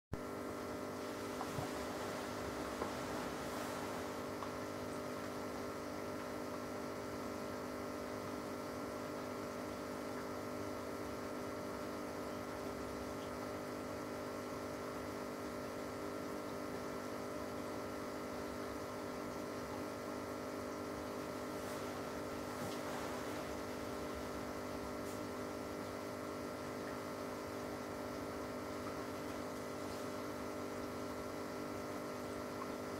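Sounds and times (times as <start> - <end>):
aquarium pump humming: 0.2 - 32.9.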